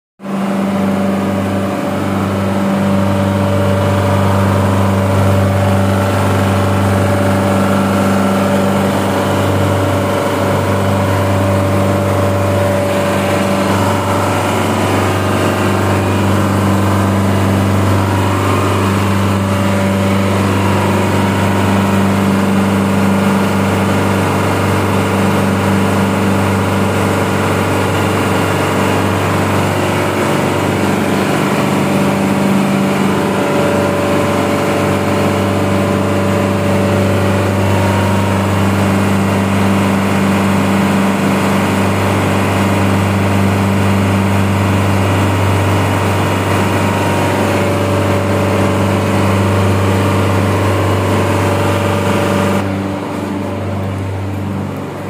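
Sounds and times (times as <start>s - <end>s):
compressor humming: 0.2s - 55.0s.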